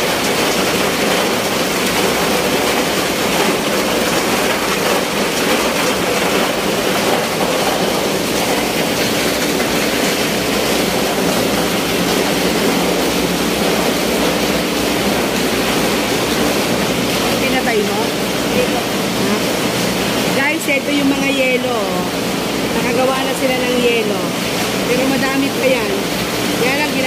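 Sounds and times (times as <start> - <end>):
machinery running: 0.0 - 27.0.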